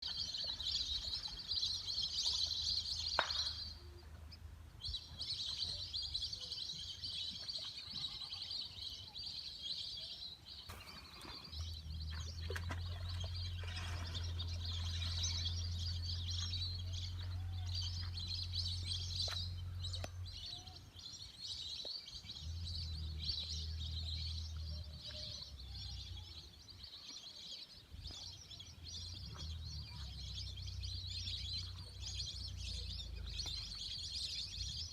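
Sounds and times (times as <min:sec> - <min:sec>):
birds chattering chorus: 0:00.0 - 0:34.9.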